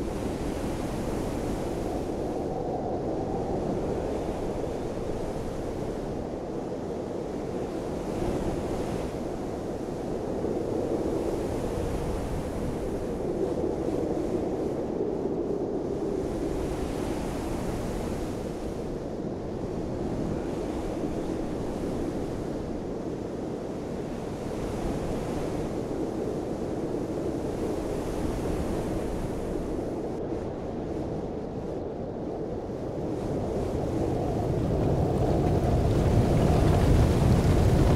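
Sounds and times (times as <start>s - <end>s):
rushing wind: 0.0s - 37.9s.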